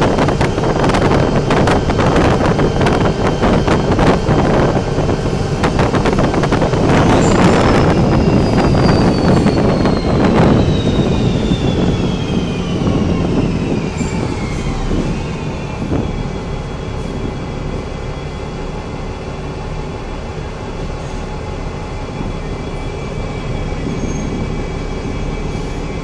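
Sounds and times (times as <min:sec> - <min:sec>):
bus engine and tyre noise: 0:00.0 - 0:26.0
high drivetrain whine: 0:00.0 - 0:26.0.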